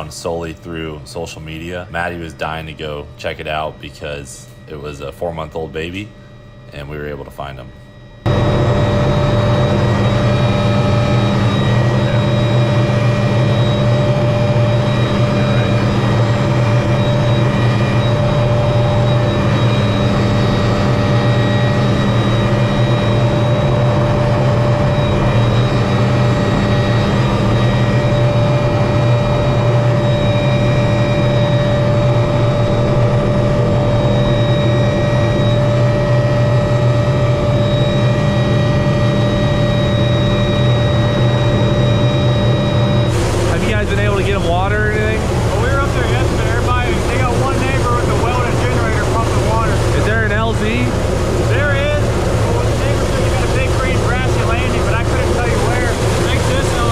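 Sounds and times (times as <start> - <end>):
helicopter engine and rotors: 0.0 - 56.9.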